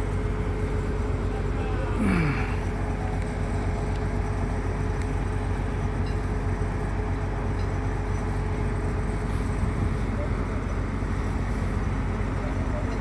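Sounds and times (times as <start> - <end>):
diesel engines droning: 0.0 - 13.0
thin steady whine: 0.0 - 13.0.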